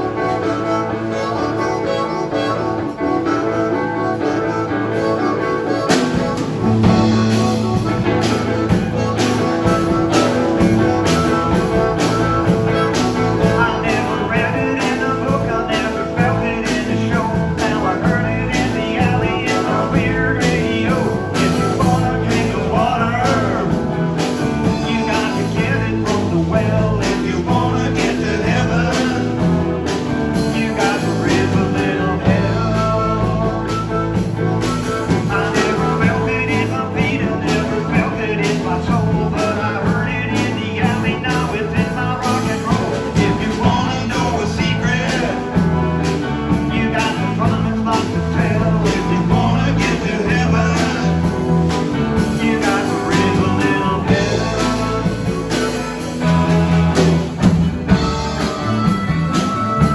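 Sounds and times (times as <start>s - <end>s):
drum kit beat: 0.0s - 59.9s
electric bass: 0.0s - 59.9s
electric guitar: 0.0s - 59.9s
harmonica: 0.0s - 59.9s.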